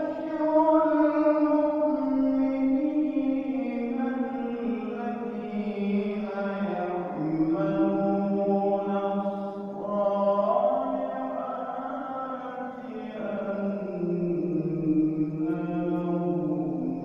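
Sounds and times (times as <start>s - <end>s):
person reciting melodically: 0.0s - 17.0s.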